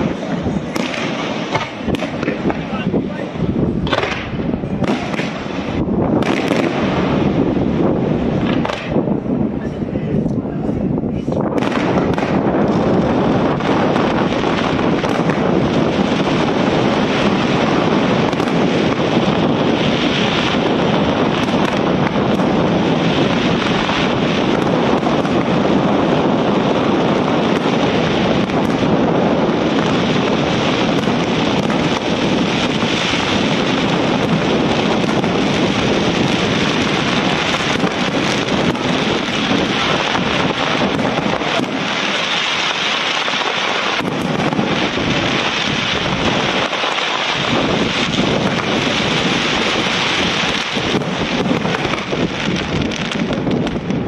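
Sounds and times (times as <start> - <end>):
deep fireworks booms: 0.0 - 54.0
fireworks crackling and banging: 0.0 - 54.0.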